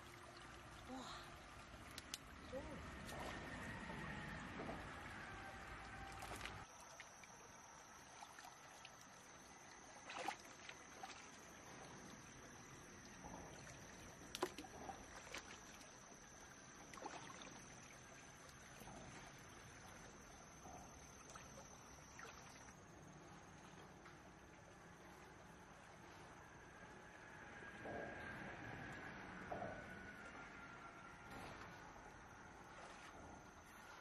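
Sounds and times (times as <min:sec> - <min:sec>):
faint high whine: 0:00.0 - 0:34.0
shallow stream flowing: 0:00.0 - 0:34.0.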